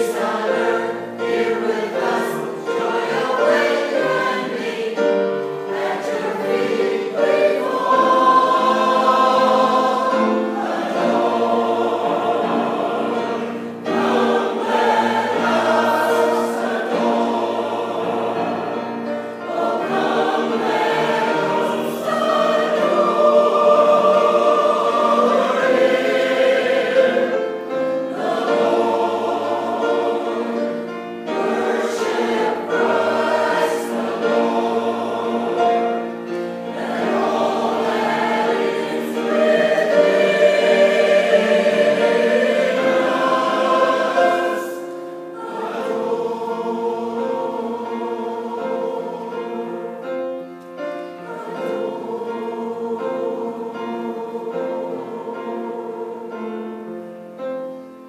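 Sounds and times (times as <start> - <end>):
mixed choir singing: 0.0 - 57.8.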